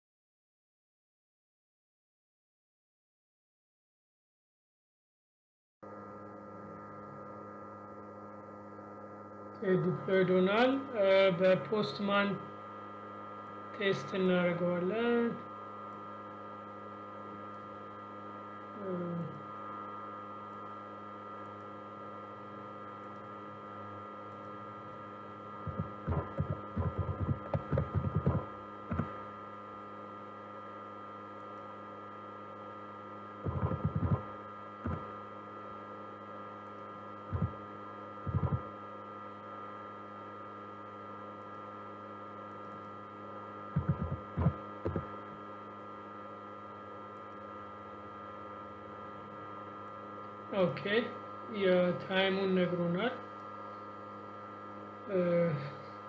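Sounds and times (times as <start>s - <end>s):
steady electrical hum: 5.8s - 56.0s.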